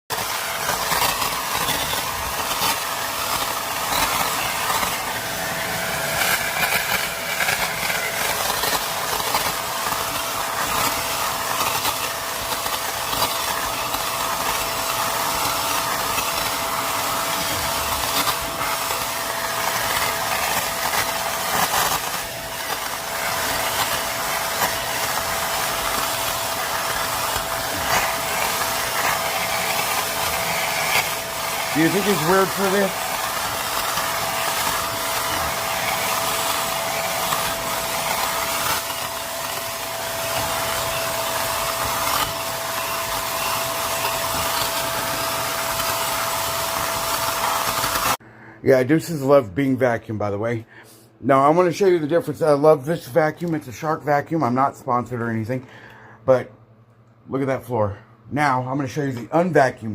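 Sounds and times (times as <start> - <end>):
vacuum cleaner running: 0.0 - 48.2.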